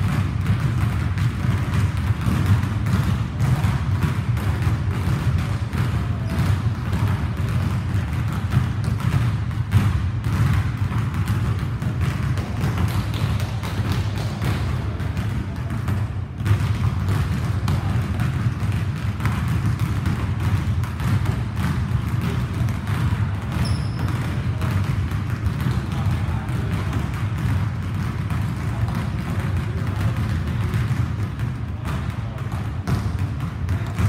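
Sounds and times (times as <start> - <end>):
basketball bouncing on wood floor: 0.0 - 34.0.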